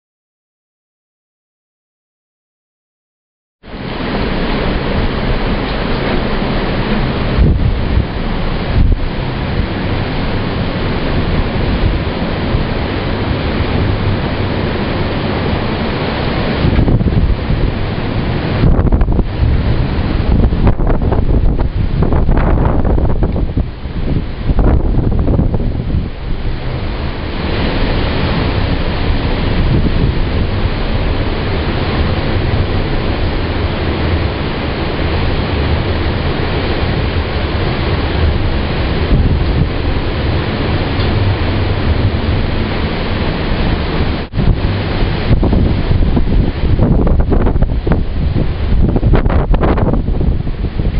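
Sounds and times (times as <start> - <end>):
roaring wind: 3.6 - 50.9
surf: 3.6 - 50.9.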